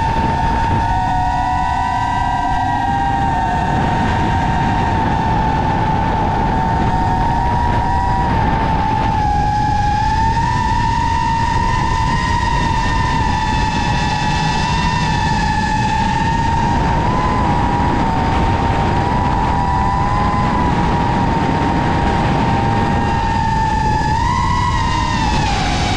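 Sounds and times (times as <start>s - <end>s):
low rumble: 0.0s - 25.9s
machine whine: 0.0s - 25.9s.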